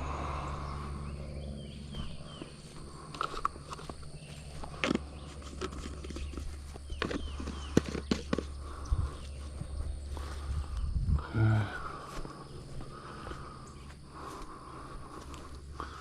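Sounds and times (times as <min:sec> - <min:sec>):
hands and feet working in garden: 0:00.0 - 0:16.0
low steady hum: 0:00.0 - 0:16.0.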